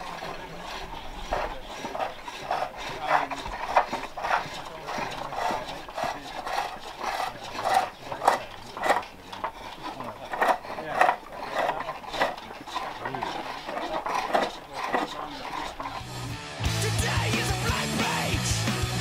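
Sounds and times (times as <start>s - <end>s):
hook tools rasping on wood: 0.0s - 16.4s.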